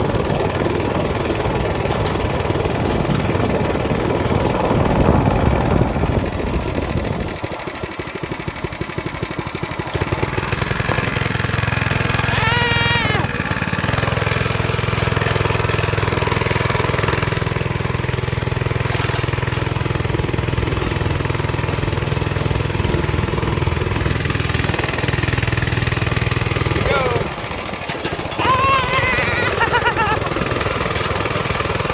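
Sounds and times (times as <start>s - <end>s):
mini-bike engine running: 0.0s - 31.9s.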